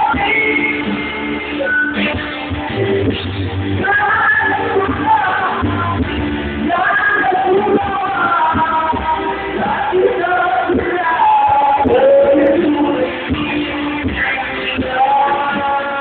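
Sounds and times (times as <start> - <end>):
man singing into a microphone: 0.0 - 2.2, 3.8 - 16.0.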